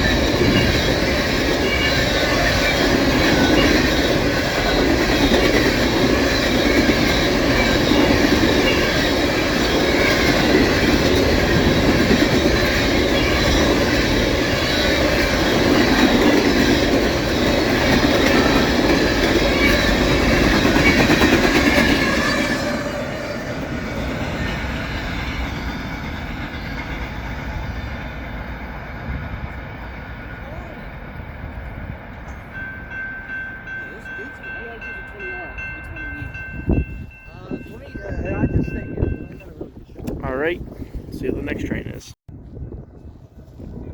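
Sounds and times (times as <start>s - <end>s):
freight train wheels rattling: 0.0s - 40.9s.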